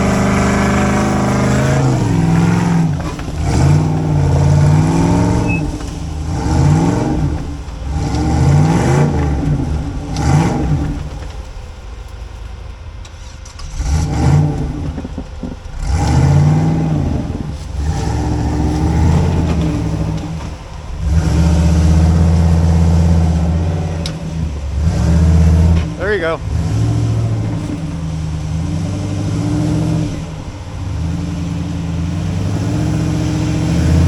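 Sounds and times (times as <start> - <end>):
engine revving: 0.0 - 12.4, 13.0 - 34.0.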